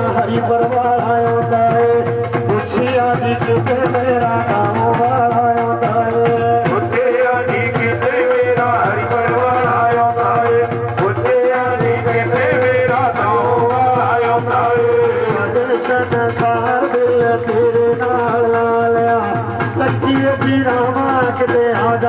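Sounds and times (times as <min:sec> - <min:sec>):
devotional folk music: 0:00.0 - 0:22.0
drum: 0:00.0 - 0:22.0
jingling rattle beat: 0:00.0 - 0:22.0.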